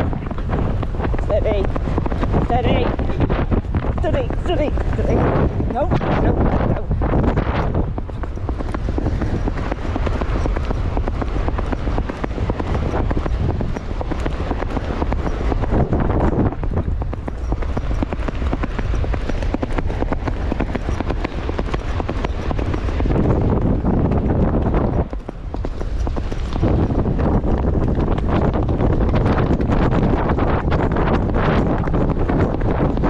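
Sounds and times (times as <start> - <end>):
horse hoofbeats: 0.0 - 33.0
wind buffeting microphone: 0.0 - 33.0.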